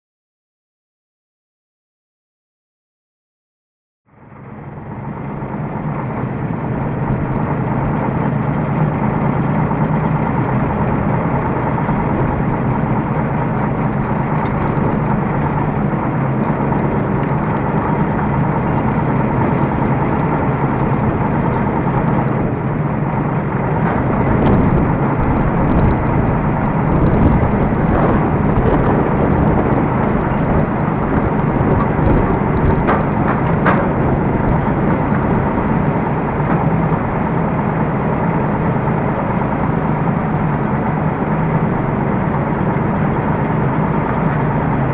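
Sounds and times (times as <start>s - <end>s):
tractor diesel engine running: 4.1s - 44.9s.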